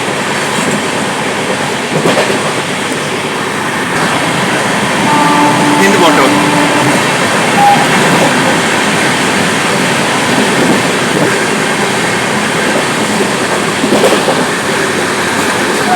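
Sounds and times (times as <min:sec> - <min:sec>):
train rumbling on the track: 0:00.0 - 0:15.9.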